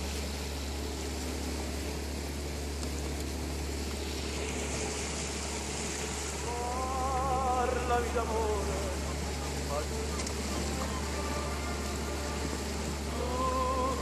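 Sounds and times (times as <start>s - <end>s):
motorboat engine droning: 0.0s - 14.0s
water hissing past boat: 0.0s - 14.0s.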